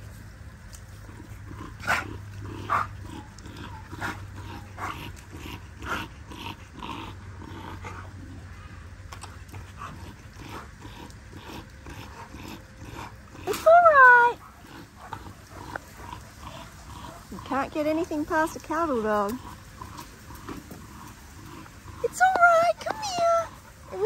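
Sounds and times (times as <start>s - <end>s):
dogs growling and yipping: 0.8s - 24.0s.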